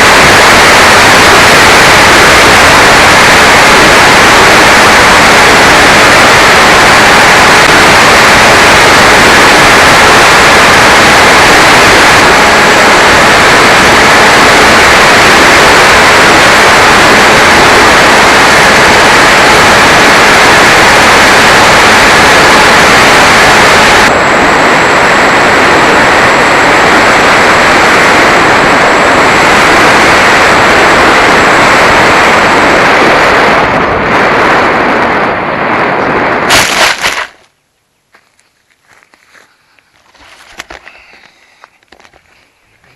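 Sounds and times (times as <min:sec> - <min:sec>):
static-like hiss: 0:00.0 - 0:42.9.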